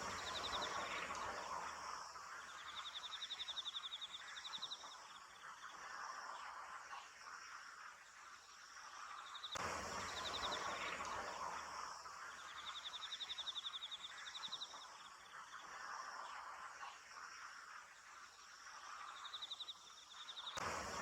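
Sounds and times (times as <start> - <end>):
cricket chirping trills: 0.0 - 21.0
insect noise: 0.0 - 21.0.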